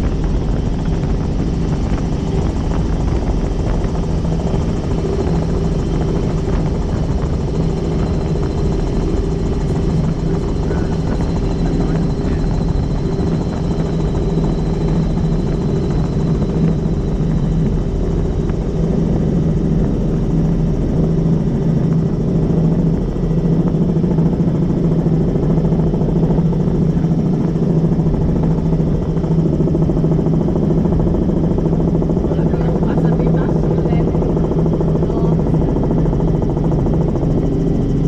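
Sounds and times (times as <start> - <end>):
helicopter rotor and engine drone: 0.0 - 38.0.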